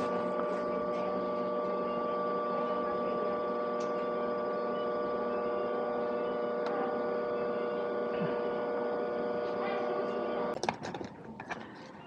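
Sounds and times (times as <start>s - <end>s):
electrical hum from bed machinery: 0.0s - 12.0s.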